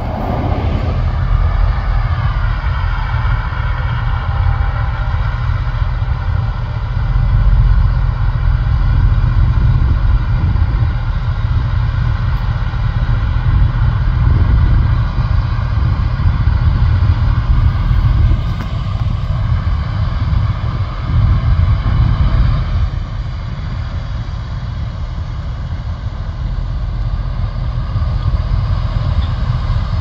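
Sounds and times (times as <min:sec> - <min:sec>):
combine harvester engine rumbling: 0:00.0 - 0:30.0
tractor running: 0:00.0 - 0:30.0.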